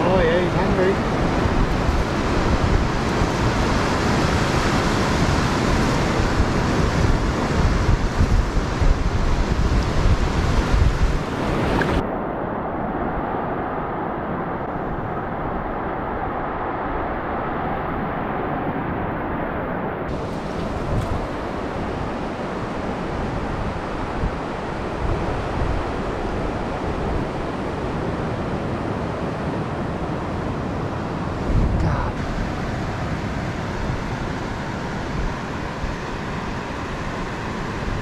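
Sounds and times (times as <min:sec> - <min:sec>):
surf washing up beach: 0:00.0 - 0:38.0
wind buffeting microphone: 0:00.0 - 0:38.0.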